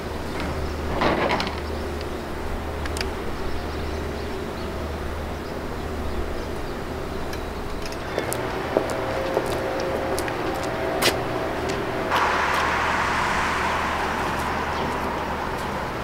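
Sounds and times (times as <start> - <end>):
traffic and engine hum: 0.0 - 16.0.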